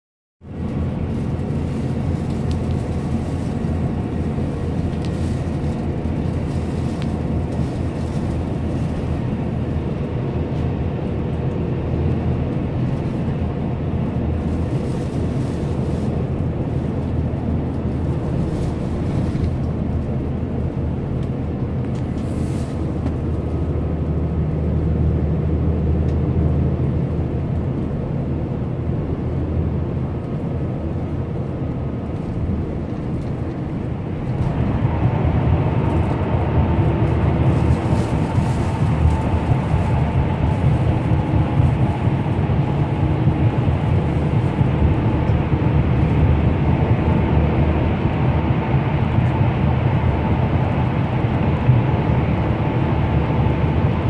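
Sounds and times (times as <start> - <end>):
bus engine and tyres rumbling: 0.4 - 54.0.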